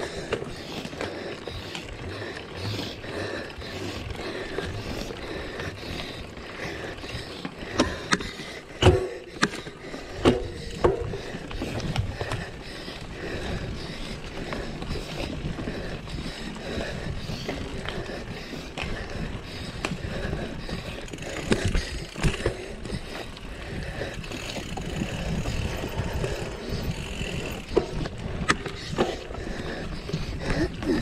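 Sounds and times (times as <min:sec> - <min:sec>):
bike rattling and knocking: 0:00.0 - 0:31.0
bike tyres rolling on trail: 0:00.0 - 0:31.0.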